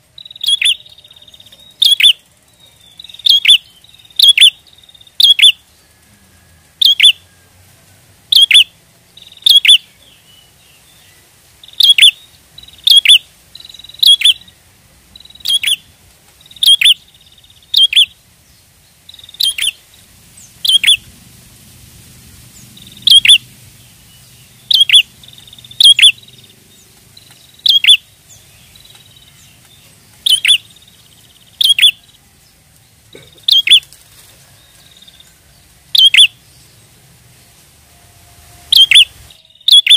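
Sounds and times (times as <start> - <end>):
bird chirping: 0.0 - 7.5, 8.2 - 21.3, 22.3 - 37.7, 38.4 - 39.9.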